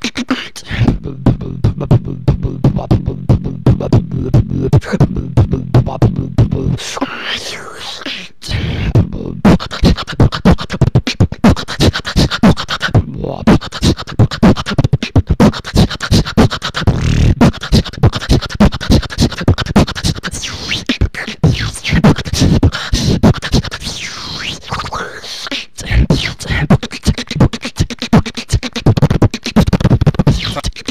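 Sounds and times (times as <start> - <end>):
person beatboxing: 0.0 - 30.9.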